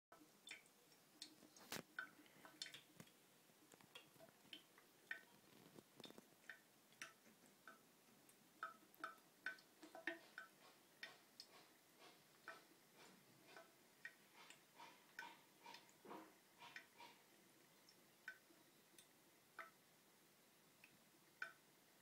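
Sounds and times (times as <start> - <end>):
faint ticks and plinks in basin: 0.1 - 22.0.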